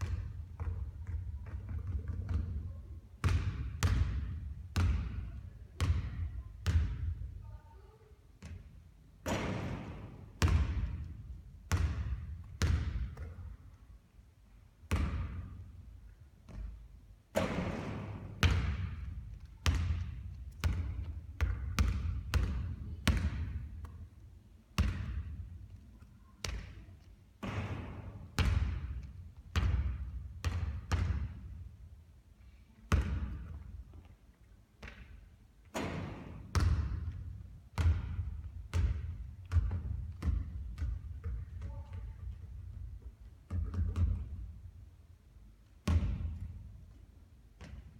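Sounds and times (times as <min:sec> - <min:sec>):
basketball bouncing on court: 0:00.0 - 0:07.5, 0:08.4 - 0:13.6, 0:14.9 - 0:15.8, 0:16.4 - 0:24.0, 0:24.8 - 0:25.8, 0:26.4 - 0:31.7, 0:32.9 - 0:34.0, 0:34.8 - 0:44.7, 0:45.8 - 0:46.8, 0:47.5 - 0:47.9.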